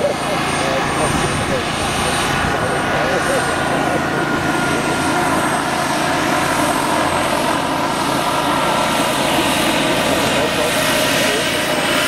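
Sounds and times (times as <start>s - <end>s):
model helicopter rotors running: 0.0s - 12.0s.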